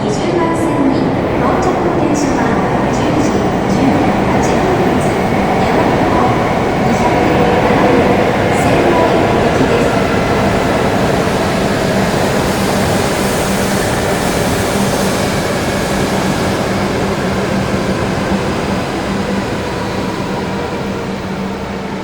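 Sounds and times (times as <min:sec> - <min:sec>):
train rumble with low hum: 0:00.0 - 0:22.0.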